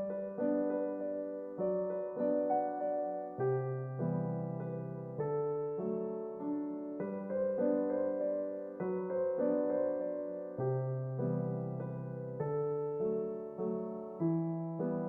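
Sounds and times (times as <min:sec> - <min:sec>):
soft electric piano chords: 0:00.0 - 0:15.0.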